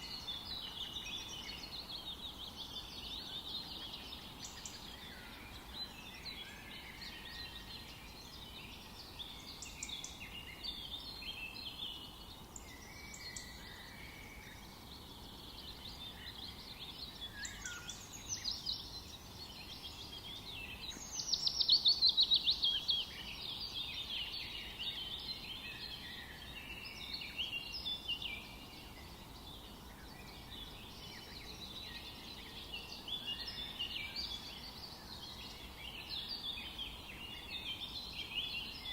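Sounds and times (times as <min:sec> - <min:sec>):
faint steady background noise: 0:00.0 - 0:38.9
songbirds singing and chirping: 0:00.0 - 0:38.9.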